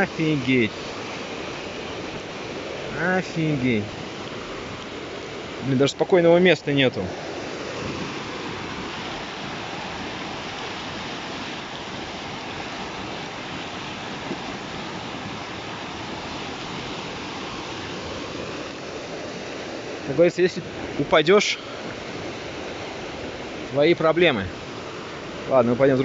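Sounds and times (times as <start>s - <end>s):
fast water rushing: 0.0s - 26.0s.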